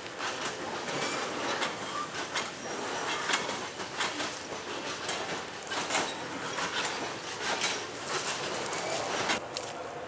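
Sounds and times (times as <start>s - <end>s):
freight cars clicking and rattling: 0.0s - 9.4s
train rolling rushing noise: 0.0s - 9.5s.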